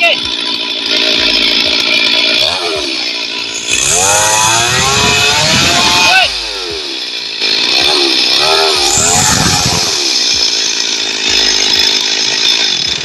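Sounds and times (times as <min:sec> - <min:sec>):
small engine running loud: 0:00.0 - 0:13.0.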